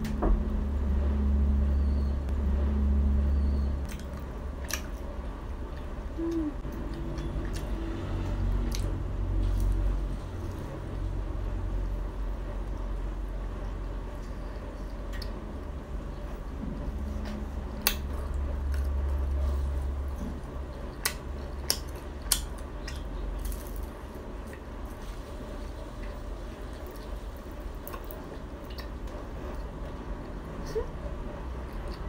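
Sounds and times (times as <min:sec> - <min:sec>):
low steady rumble: 0:00.0 - 0:32.0
chewing and crunching crispy cakes: 0:03.8 - 0:32.0.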